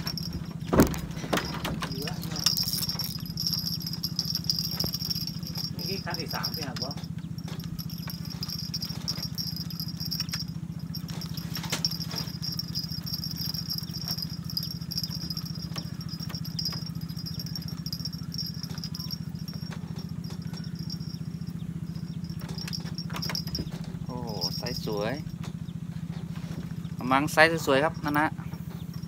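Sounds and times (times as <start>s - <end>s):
low pulsing hum: 0.0s - 29.0s.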